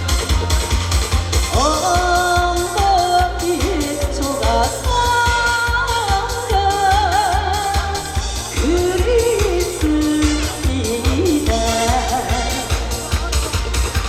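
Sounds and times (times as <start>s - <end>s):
backing track with steady beat: 0.0s - 14.0s
woman singing with vibrato: 1.5s - 13.0s.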